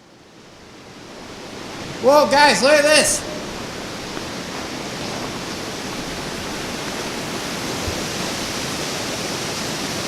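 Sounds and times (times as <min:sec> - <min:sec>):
water rushing: 0:00.2 - 0:10.0.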